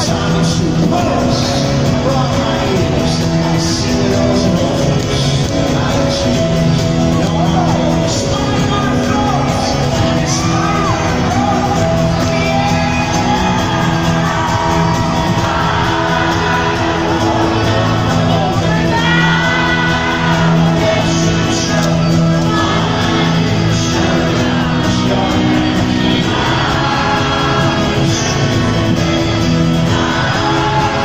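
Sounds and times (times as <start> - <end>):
crowd singing and shouting: 0.0 - 31.0
folk rock band playing: 0.0 - 31.0.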